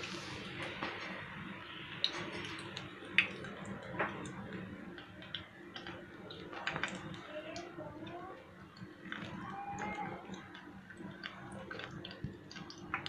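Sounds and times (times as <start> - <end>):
fritters deep-frying in oil: 0.0 - 13.0.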